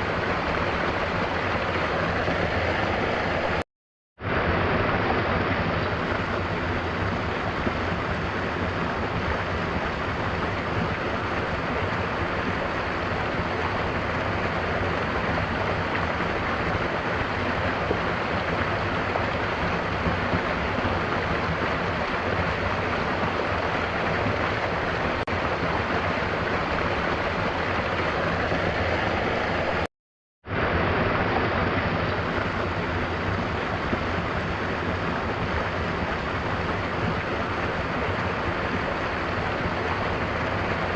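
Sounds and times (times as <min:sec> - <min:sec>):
waterfall rushing: 0:00.0 - 0:03.6, 0:04.3 - 0:29.9, 0:30.6 - 0:40.9.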